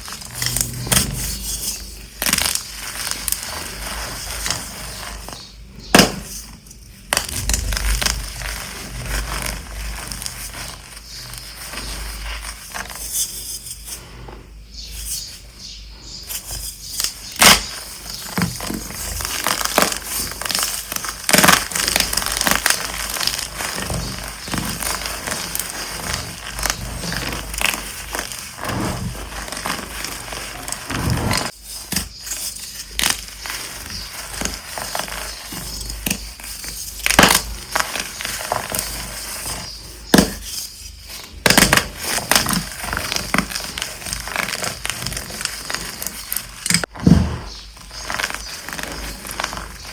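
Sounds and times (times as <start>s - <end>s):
chalk blocks crunching and snapping: 0.0s - 6.4s, 16.3s - 49.9s.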